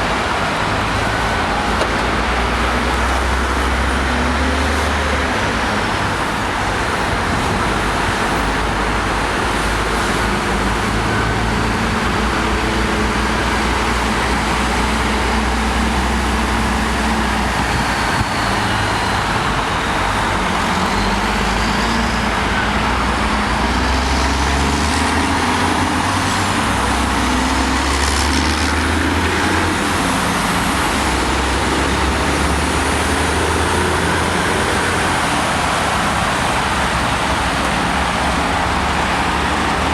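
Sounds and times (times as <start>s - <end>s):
freeway traffic noise: 0.0s - 39.9s.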